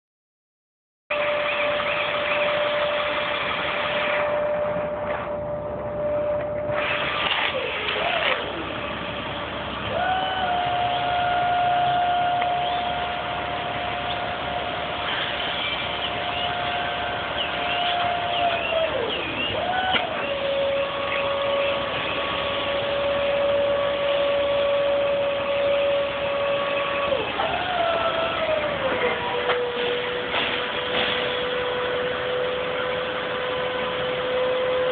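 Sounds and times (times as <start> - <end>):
machine whine: 1.1 - 34.9
noisy background: 1.1 - 34.9.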